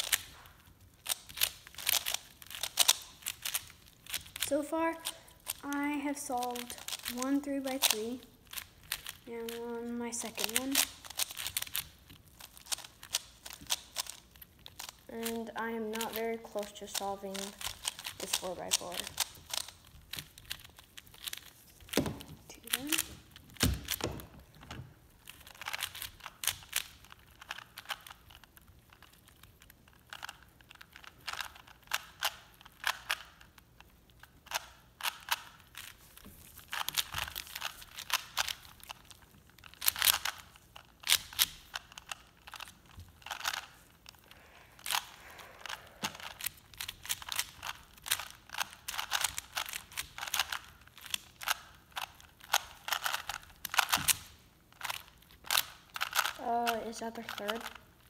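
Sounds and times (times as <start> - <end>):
puzzle cube plastic clicking: 0.0 - 58.0.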